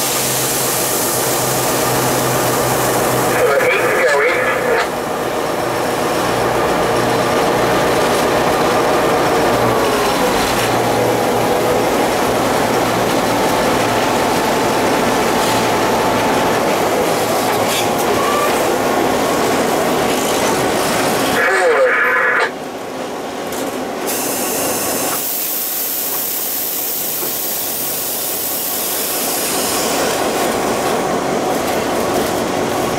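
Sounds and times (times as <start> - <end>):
train wheels rumbling on rail: 0.0 - 3.5, 4.3 - 21.4, 22.4 - 32.9
train whine: 0.0 - 32.9.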